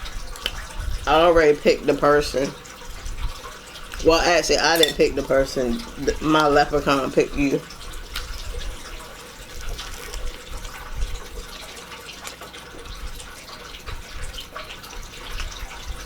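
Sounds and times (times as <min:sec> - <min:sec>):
running water trickling: 0:00.0 - 0:16.0.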